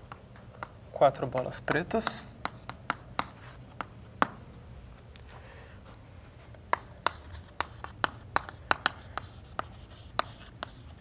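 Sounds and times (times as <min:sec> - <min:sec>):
chalk tapping and writing on blackboard: 0:00.0 - 0:04.4, 0:06.4 - 0:11.0.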